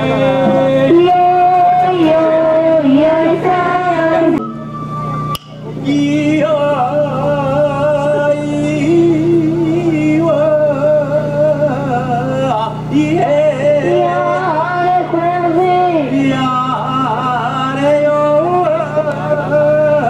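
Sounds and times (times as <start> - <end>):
man singing chant solo: 0.0 - 4.4, 5.8 - 20.0
steady low hum: 0.0 - 20.0.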